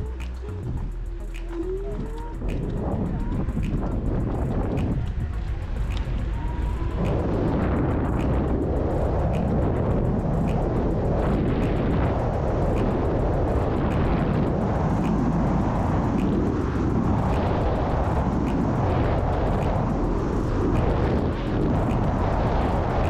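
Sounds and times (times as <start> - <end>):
scooter tyre and road noise: 0.0 - 23.0
wind rushing over microphone: 0.0 - 23.0.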